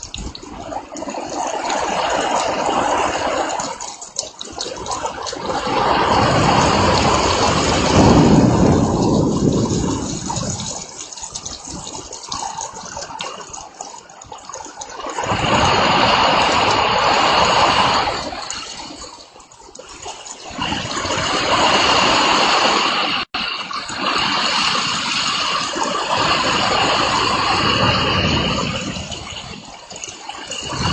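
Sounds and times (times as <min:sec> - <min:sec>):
gusting wind: 0:00.0 - 0:30.9
heavy rain: 0:00.0 - 0:30.9.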